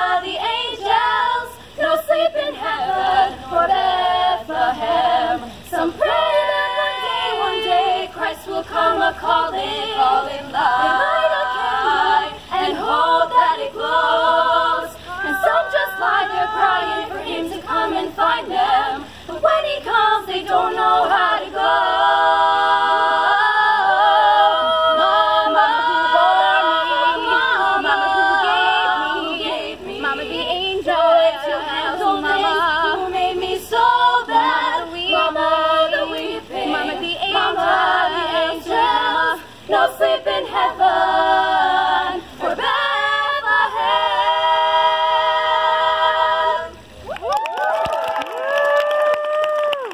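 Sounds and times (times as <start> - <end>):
girls singing a cappella harmony: 0.0 - 47.1.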